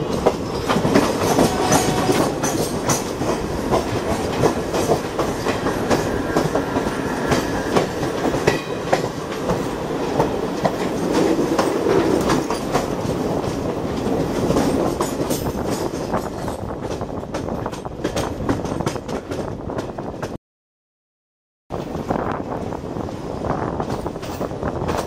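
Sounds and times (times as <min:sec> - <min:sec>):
train wheels rumbling: 0:00.0 - 0:20.4.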